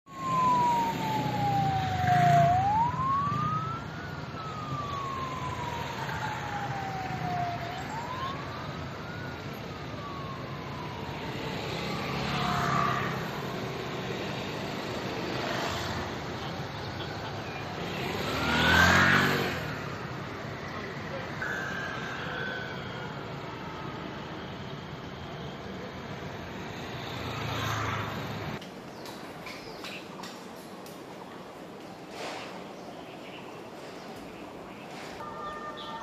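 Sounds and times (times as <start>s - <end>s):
emergency vehicle siren wailing: 0.1s - 28.6s, 35.2s - 36.0s
street traffic: 0.1s - 36.0s
vehicles passing: 0.1s - 36.0s.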